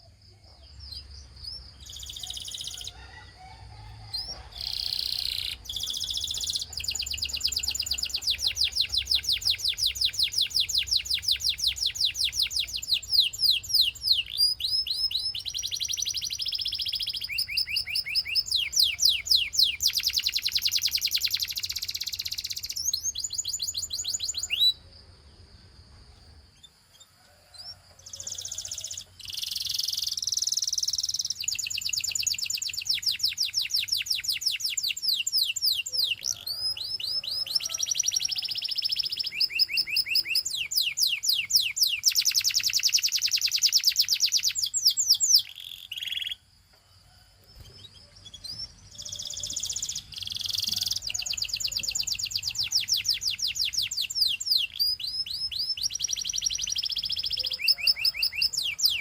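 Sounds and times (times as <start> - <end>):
canary singing: 0.0 - 24.9, 26.6 - 46.5, 47.5 - 59.0.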